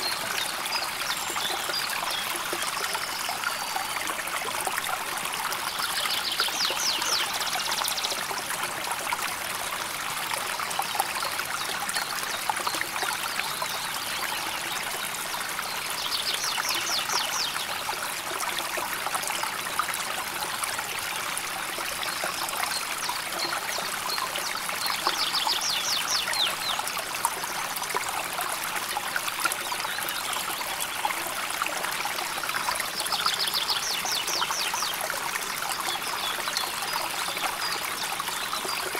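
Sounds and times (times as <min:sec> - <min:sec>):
river water flowing over stones: 0:00.0 - 0:38.9.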